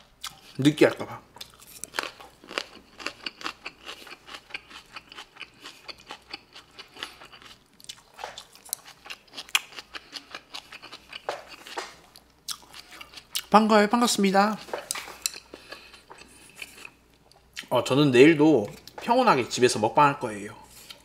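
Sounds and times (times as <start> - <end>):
person chewing crisp vegetables: 0.0 - 13.7, 14.3 - 17.8, 18.6 - 19.1, 20.6 - 21.0.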